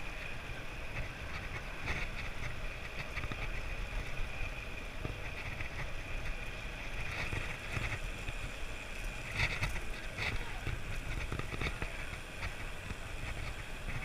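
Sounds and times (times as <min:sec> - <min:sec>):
bicycle road noise rumble: 0:00.0 - 0:14.0.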